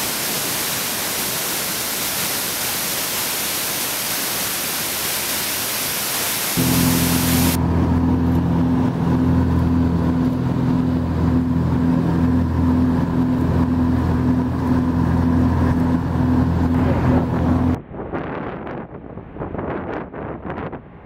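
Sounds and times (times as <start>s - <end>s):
propeller aircraft engine humming: 0.0s - 21.0s.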